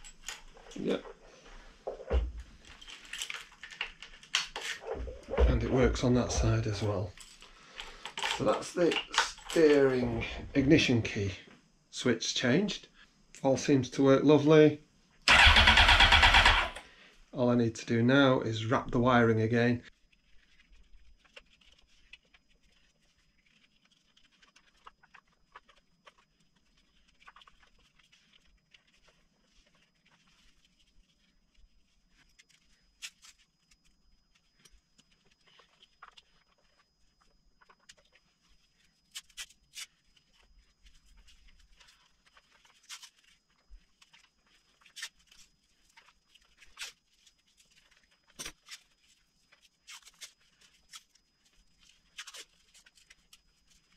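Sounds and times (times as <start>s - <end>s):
wires rustling: 0.0s - 11.1s, 19.6s - 53.9s.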